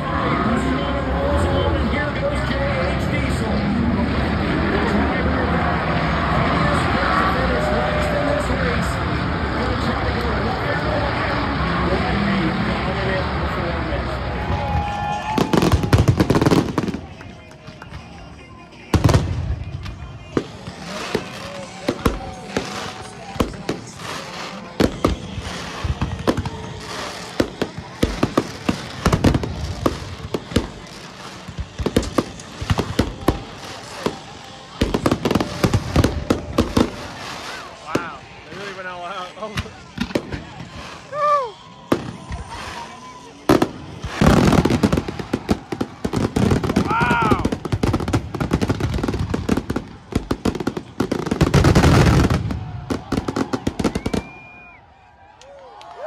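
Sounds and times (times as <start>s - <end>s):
fireworks cracking and banging: 0.0s - 56.0s.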